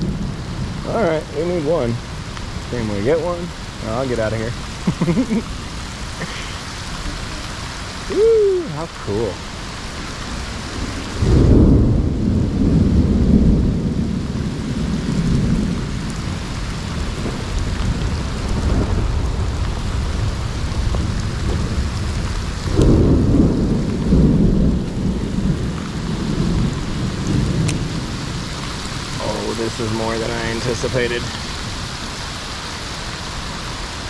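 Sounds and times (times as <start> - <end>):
low rumbles of thunder: 0.0 - 4.9, 9.0 - 32.4
heavy rain pouring: 0.0 - 34.0.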